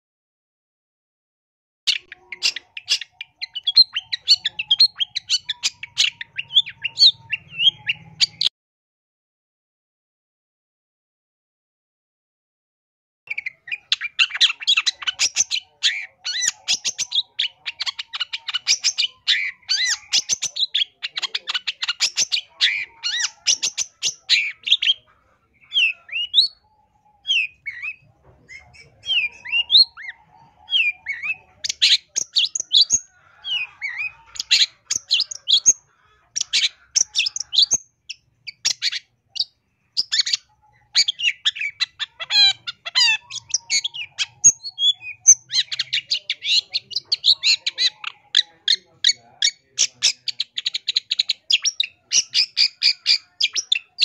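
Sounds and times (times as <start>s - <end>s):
shrike singing: 1.9s - 8.5s, 13.3s - 54.0s.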